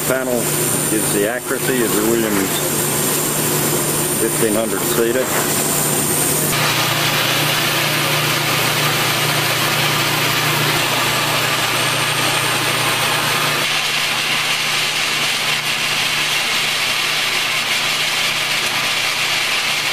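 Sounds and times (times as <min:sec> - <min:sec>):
machine hum: 0:00.0 - 0:19.9
seeder hiss: 0:00.0 - 0:19.9.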